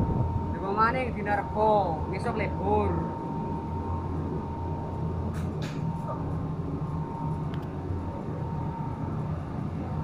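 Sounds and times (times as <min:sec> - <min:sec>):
low machinery hum: 0:00.0 - 0:10.0.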